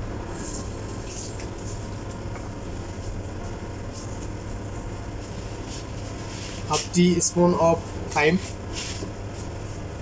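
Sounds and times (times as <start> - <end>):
kitchen equipment hum: 0.0 - 10.0.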